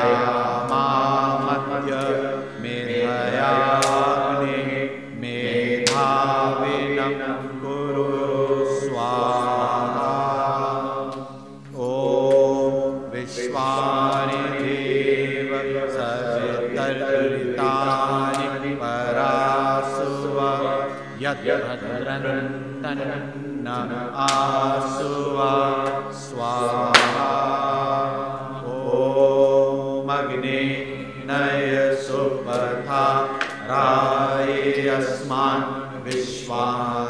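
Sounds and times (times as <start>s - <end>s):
mantras chanted: 0.0s - 37.0s.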